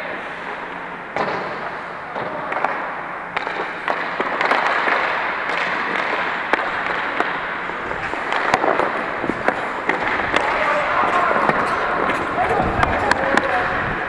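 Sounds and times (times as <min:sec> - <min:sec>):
hockey sticks and puck clacking: 0:00.0 - 0:13.9
skates scraping ice: 0:00.3 - 0:13.8.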